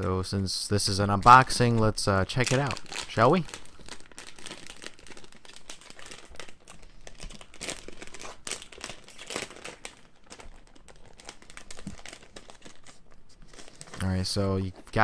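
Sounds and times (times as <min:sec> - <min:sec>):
plastic bag crinkling: 0:01.3 - 0:15.0.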